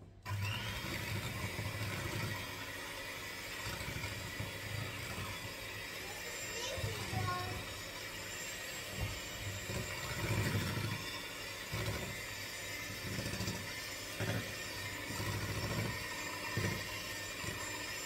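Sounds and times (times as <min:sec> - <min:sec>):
electric hand mixer humming: 0:00.0 - 0:18.0.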